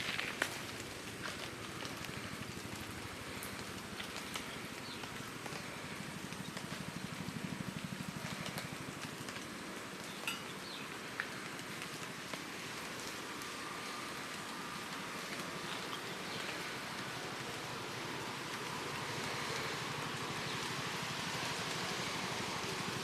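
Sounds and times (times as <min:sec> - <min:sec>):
steady rain with drop ticks: 0:00.0 - 0:23.0.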